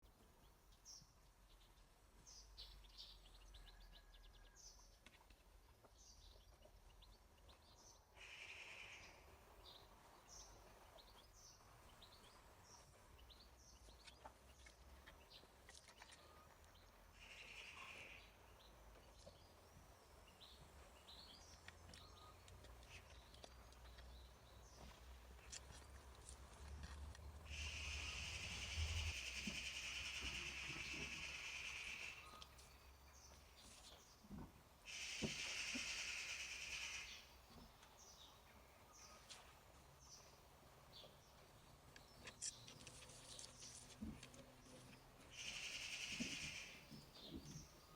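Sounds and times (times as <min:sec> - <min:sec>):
songbirds chirping and trilling: 0:00.0 - 0:47.9.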